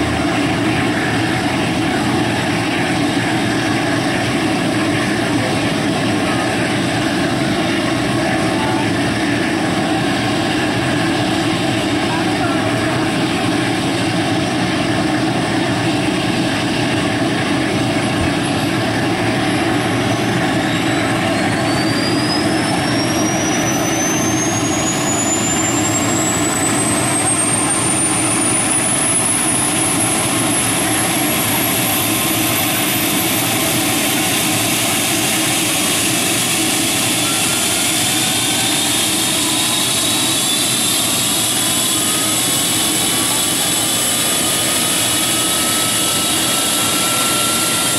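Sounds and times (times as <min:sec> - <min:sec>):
faint rising whine: 0:00.0 - 0:47.9
helicopter turbine spooling up: 0:00.0 - 0:47.9.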